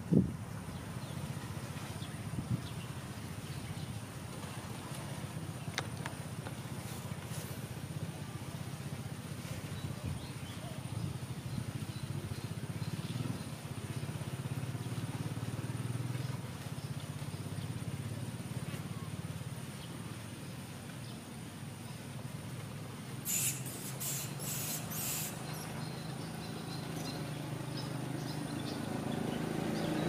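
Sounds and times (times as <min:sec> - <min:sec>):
low motor rumble: 0:00.0 - 0:23.2, 0:25.3 - 0:30.0.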